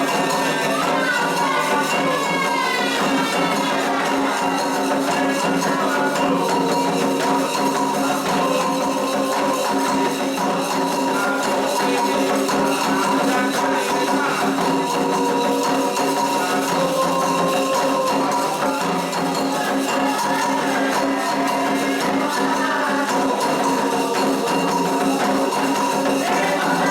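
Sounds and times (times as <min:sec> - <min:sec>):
fast hand percussion: 0:00.0 - 0:26.9
group singing a chant: 0:00.0 - 0:26.9.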